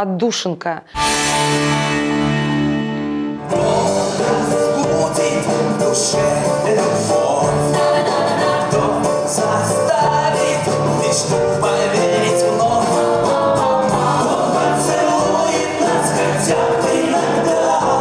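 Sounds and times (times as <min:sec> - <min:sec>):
acoustic guitar: 0:01.0 - 0:18.0
person singing: 0:03.4 - 0:18.0.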